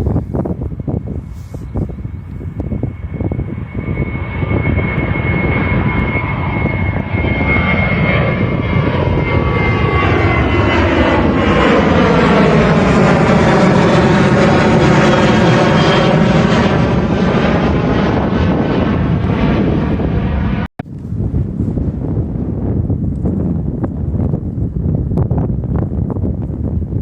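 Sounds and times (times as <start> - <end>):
airliner engines approaching: 0.0 - 27.0.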